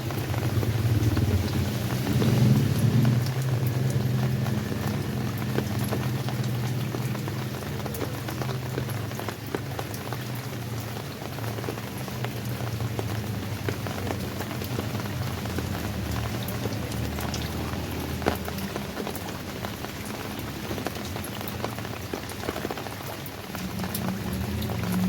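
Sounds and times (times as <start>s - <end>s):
raindrops ticking on a surface: 0.0s - 25.0s.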